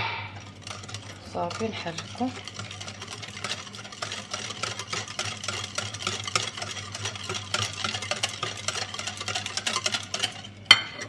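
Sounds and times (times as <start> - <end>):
whisk clicking against glass bowl: 0.3 - 11.0.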